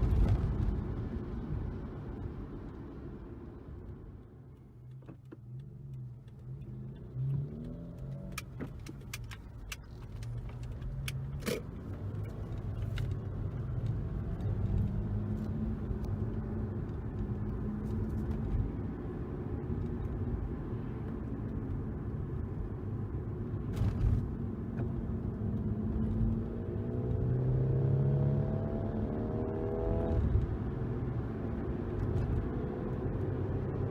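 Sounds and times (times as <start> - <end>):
car engine with low exhaust note: 0.0 - 33.9.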